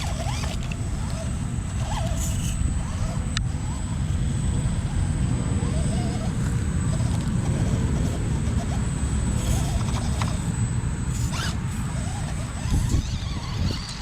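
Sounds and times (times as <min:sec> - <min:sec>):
electric drivetrain whine: 0:00.0 - 0:14.0.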